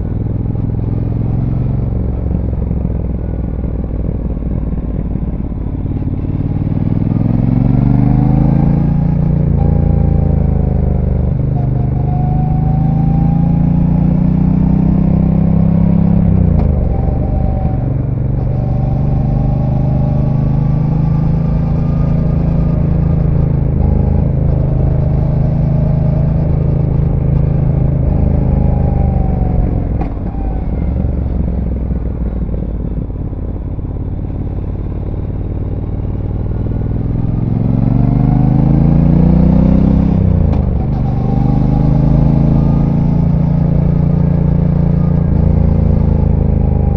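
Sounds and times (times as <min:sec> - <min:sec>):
motorcycle engine: 0:00.0 - 0:46.9.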